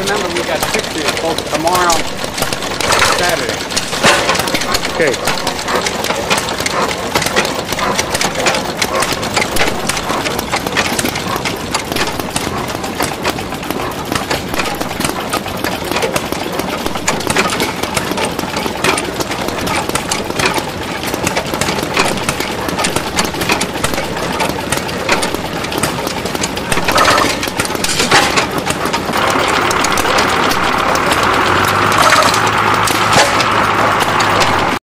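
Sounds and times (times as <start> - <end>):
engine knocking clatter: 0.0 - 34.8.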